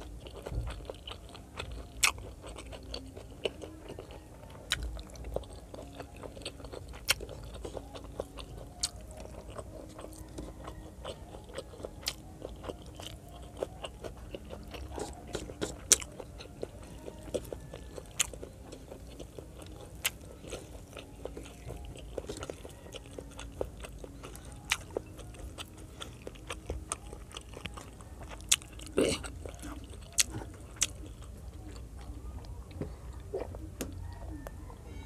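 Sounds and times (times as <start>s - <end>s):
chewing food: 0.0s - 35.0s.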